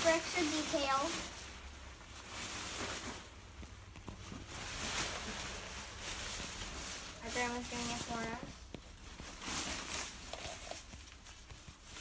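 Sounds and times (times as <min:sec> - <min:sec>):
tent fabric rustling: 0:00.0 - 0:12.0.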